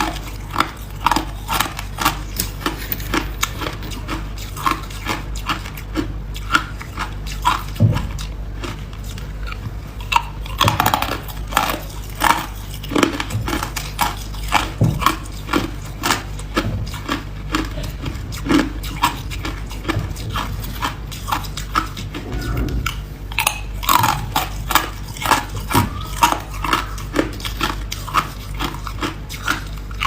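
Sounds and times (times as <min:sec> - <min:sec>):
ice being chewed: 0:00.0 - 0:30.0.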